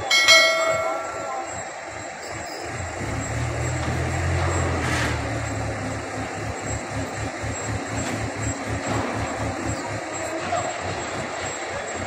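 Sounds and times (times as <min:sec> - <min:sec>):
diesel crane engine droning: 0:00.0 - 0:12.0.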